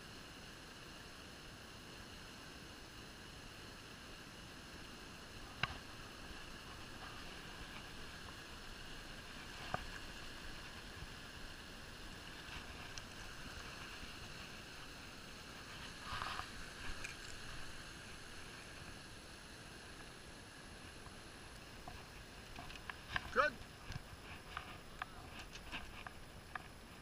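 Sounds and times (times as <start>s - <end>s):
shallow stream rushing: 0.0s - 27.0s.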